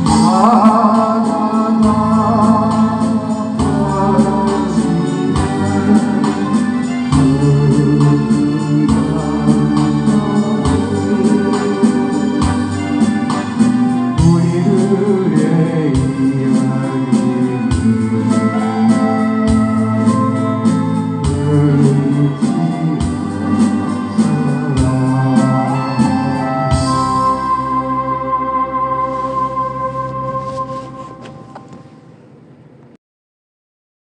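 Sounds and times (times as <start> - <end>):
steady beat: 0.0 - 31.5
electronic organ chords: 0.0 - 31.7
held bass notes: 0.0 - 31.7.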